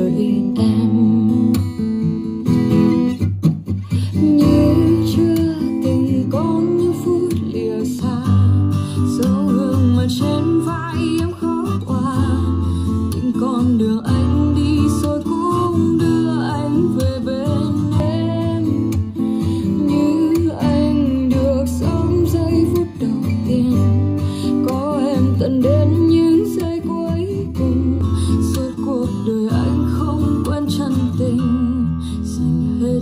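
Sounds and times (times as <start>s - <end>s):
person singing: 0.0s - 2.2s, 3.8s - 33.0s
acoustic guitar strumming: 0.0s - 33.0s
bass: 0.0s - 33.0s.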